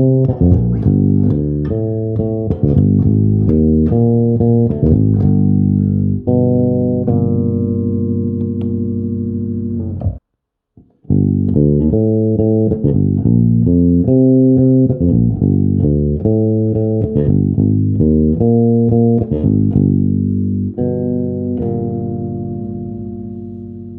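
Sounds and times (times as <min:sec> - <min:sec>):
electric bass guitar notes: 0:00.0 - 0:10.2, 0:10.8 - 0:23.9.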